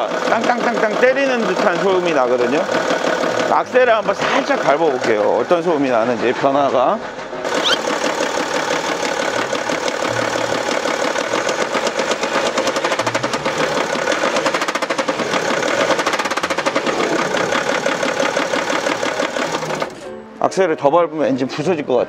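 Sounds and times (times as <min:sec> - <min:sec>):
diesel engine with metallic knock: 0:00.0 - 0:20.0.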